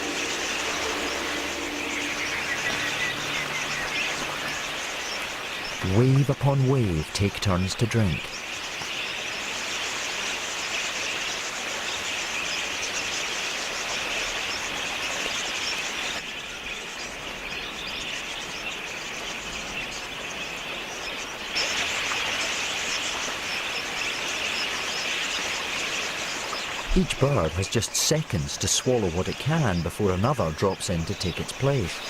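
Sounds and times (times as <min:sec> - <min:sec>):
flock of budgerigars chattering: 0:00.0 - 0:32.0.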